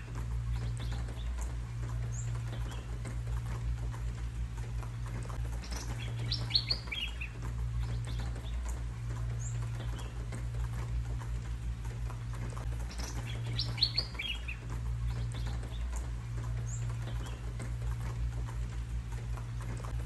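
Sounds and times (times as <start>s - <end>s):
rain pattering: 0.0s - 20.0s
songbird chirping: 0.0s - 20.0s
steady low rumble: 0.0s - 20.0s.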